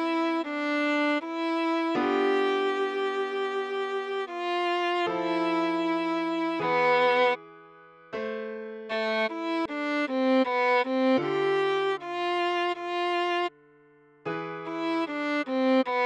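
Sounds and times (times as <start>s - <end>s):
viola melody: 0.0s - 8.3s, 8.9s - 13.6s, 14.3s - 16.0s.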